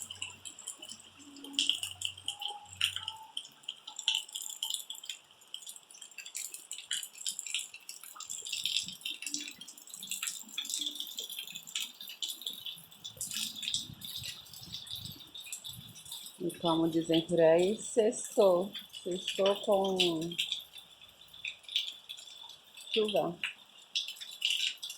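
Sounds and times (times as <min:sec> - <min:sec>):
rain pattering: 0:00.0 - 0:24.9.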